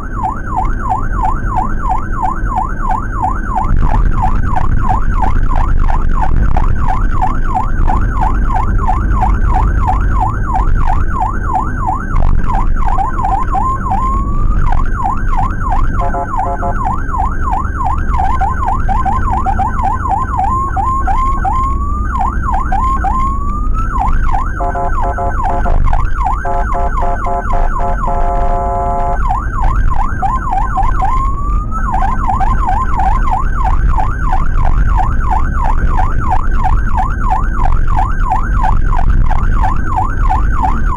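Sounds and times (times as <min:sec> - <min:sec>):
ambulance siren yelping: 0:00.0 - 0:40.9
engine and road noise: 0:00.0 - 0:40.9
siren steady horn tone: 0:00.0 - 0:40.9.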